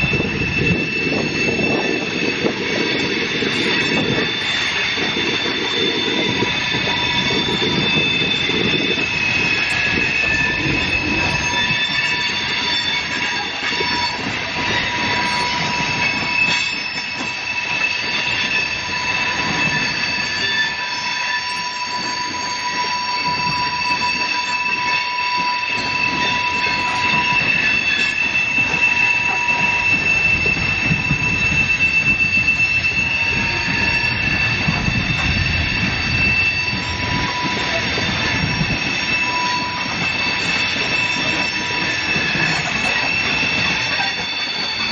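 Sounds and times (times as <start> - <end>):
low rumble of wheels on track: 0.0 - 44.9
rhythmic clatter of wheels: 0.0 - 44.9
steel wheels squealing on rail: 0.0 - 44.9.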